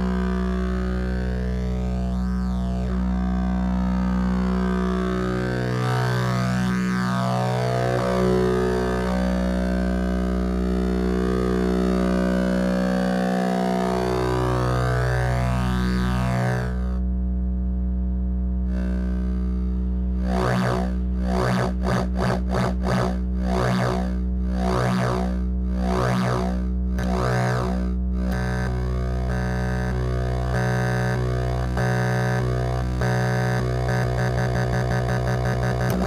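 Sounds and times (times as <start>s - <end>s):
low synthesizer drone: 0.0s - 36.0s.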